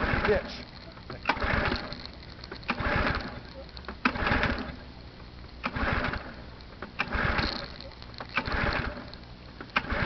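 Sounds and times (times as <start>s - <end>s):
engine pull-cord yanked: 0.0s - 4.8s, 5.6s - 10.0s.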